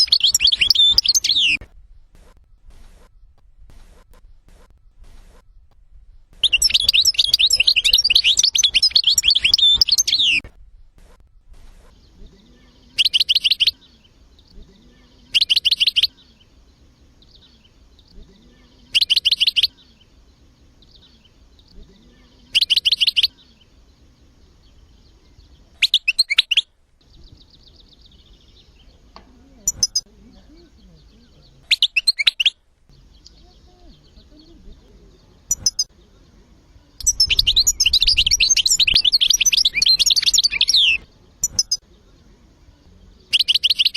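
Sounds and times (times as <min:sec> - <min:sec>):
goldfinch twittering song: 0:00.0 - 0:10.5, 0:11.7 - 0:43.9.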